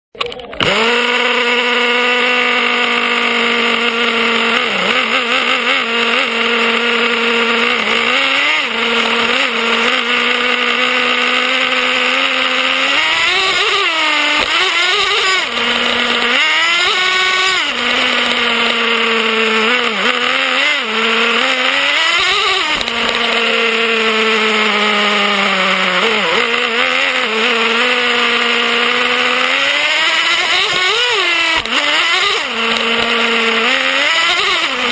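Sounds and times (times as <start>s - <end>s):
nitro engine high-pitched drone: 0.1s - 34.9s.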